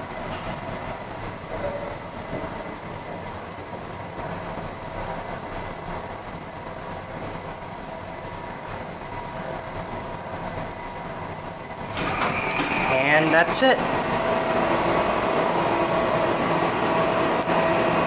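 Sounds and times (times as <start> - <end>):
train humming and rumbling: 0.0 - 18.0.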